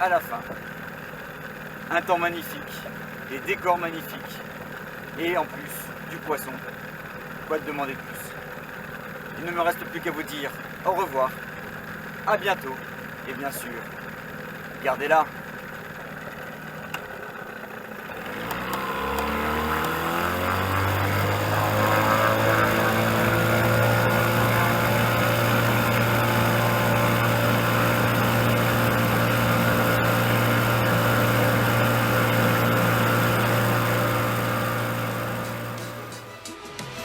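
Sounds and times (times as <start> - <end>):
outboard motor speeding up: 0.0 - 36.4.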